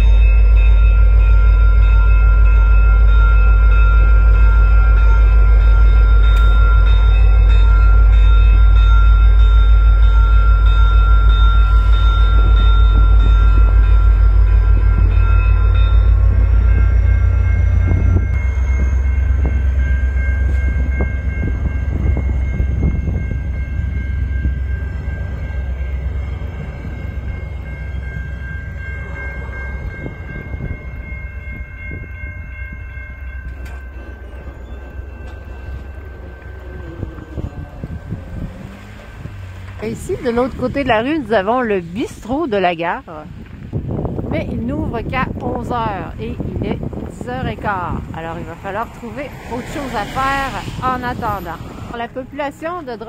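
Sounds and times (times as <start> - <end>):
train wheels clacking on rails: 0.0 - 42.5
diesel locomotive rumbling: 0.0 - 53.0.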